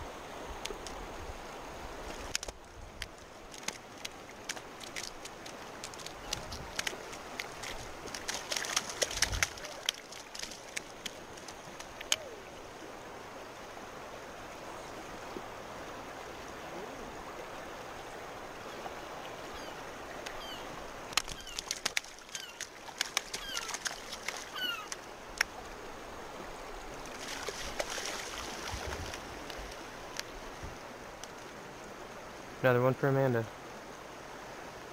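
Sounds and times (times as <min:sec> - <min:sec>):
river flowing over gravel: 0:00.0 - 0:34.9.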